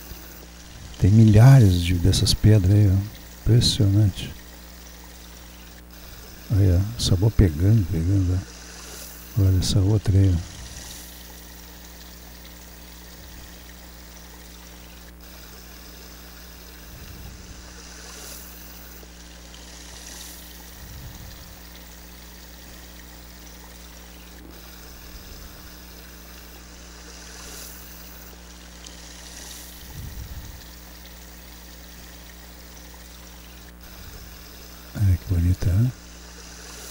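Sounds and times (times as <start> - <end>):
stream trickling over stones: 0.0 - 36.9.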